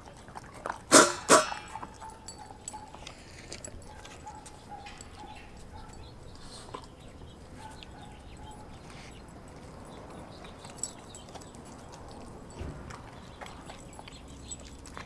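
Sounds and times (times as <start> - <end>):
dog mouthing meat wet clicks: 1.8 - 15.0.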